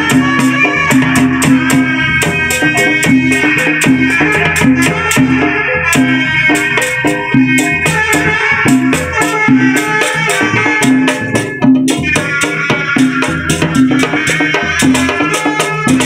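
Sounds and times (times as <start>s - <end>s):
drums and rattles playing: 0.0s - 16.0s.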